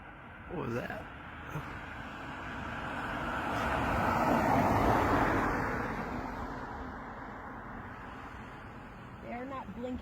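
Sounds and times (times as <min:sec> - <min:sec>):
car passing by: 0:02.0 - 0:10.0.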